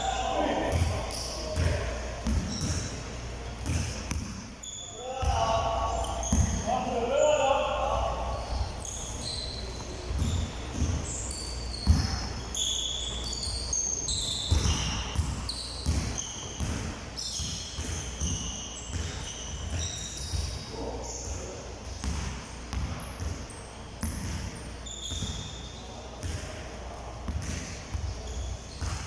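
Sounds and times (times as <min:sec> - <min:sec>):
sneaker squeaks: 0:00.0 - 0:29.0
basketballs bouncing on gym floor: 0:00.1 - 0:06.8, 0:08.4 - 0:25.6, 0:26.2 - 0:29.0.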